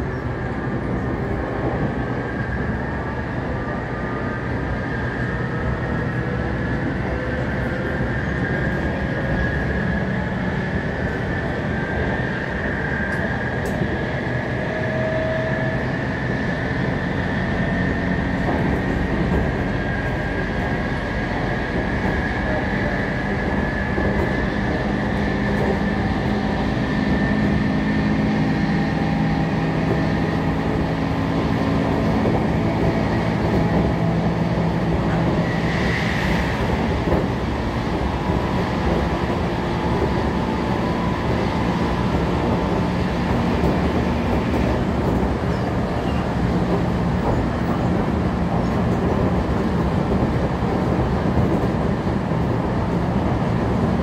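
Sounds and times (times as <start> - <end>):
rail noise: 0.0 - 54.0
train motor hum: 0.0 - 54.0.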